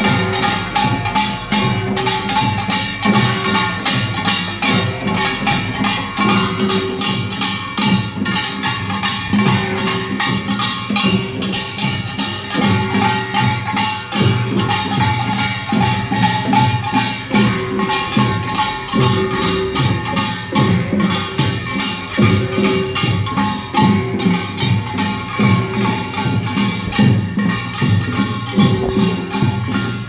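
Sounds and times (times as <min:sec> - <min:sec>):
heavy drum beats: 0:00.0 - 0:30.0
small gongs ringing: 0:00.0 - 0:30.0.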